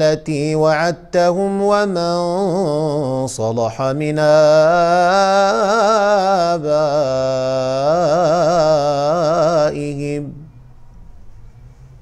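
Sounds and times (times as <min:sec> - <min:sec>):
man chanting melodically: 0:00.0 - 0:10.6.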